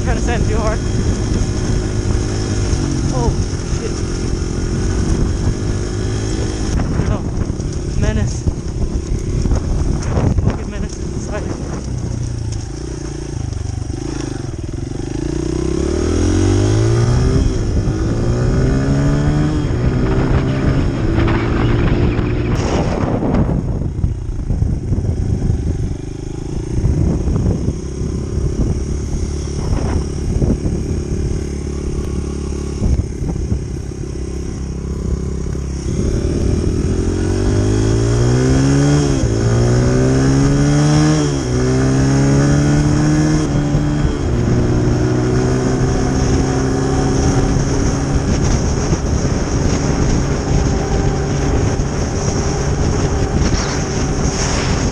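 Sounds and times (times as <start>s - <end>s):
dirt bike engine accelerating: 0.0s - 54.9s.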